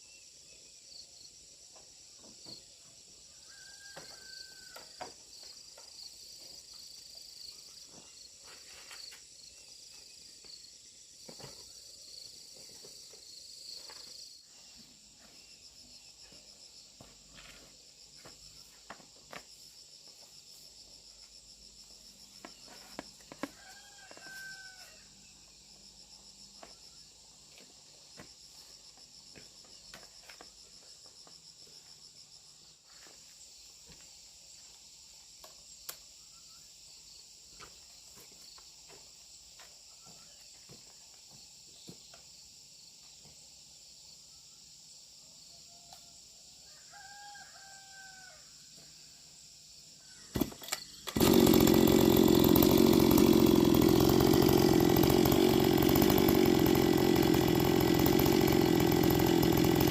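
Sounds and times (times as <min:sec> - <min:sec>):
crickets and insects chirping: 0:00.0 - 0:55.5.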